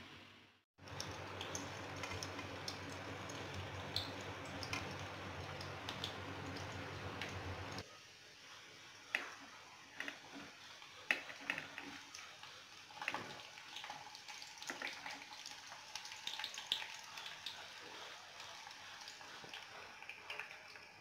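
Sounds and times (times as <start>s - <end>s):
hot oil sizzling and crackling: 0.8s - 21.0s.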